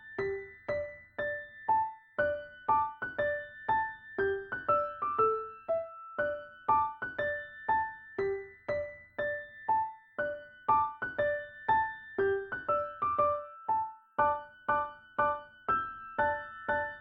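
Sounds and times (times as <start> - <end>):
gentle keyboard melody: 0.0 - 17.0.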